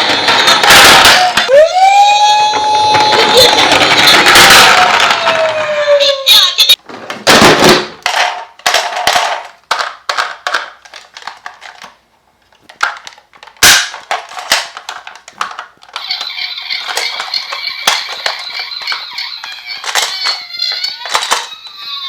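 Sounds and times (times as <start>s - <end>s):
toy cars clattering: 0.0s - 1.6s, 2.6s - 22.0s.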